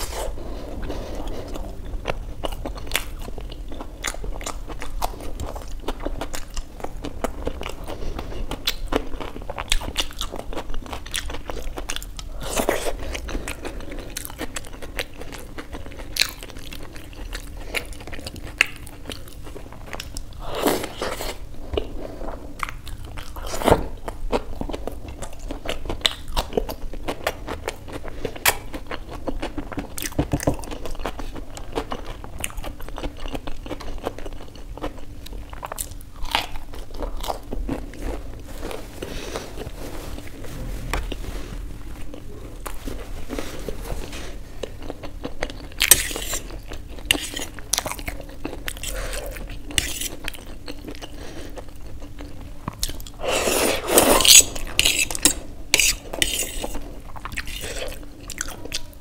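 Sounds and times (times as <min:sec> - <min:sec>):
chewing and crunching pastry: 0:00.0 - 0:59.0.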